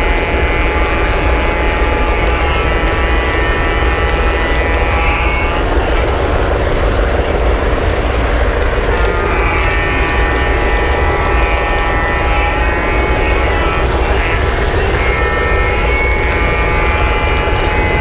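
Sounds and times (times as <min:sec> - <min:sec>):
model train wheels and motor rumbling: 0:00.0 - 0:18.0
wavering whine: 0:00.0 - 0:18.0.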